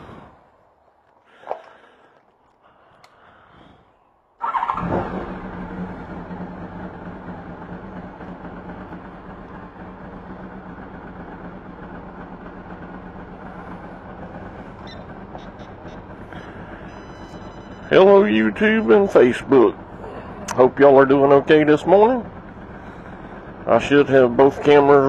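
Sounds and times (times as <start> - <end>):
motorcycle engine starting and idling: 1.1 - 25.0.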